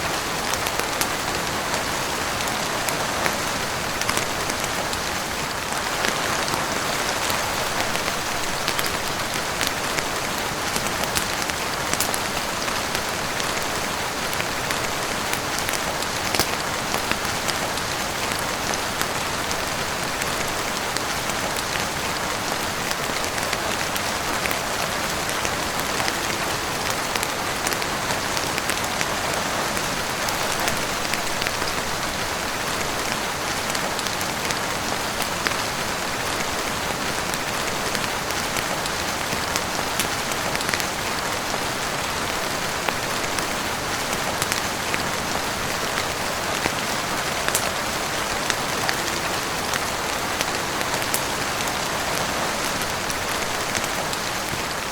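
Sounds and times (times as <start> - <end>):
heavy rain on a roof and windows: 0.0 - 54.9.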